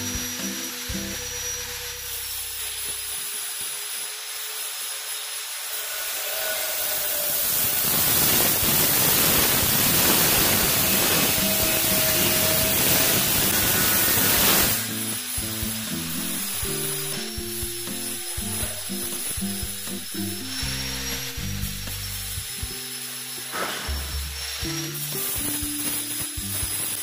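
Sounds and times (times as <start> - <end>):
angle grinder cutting metal: 0.0 - 27.0.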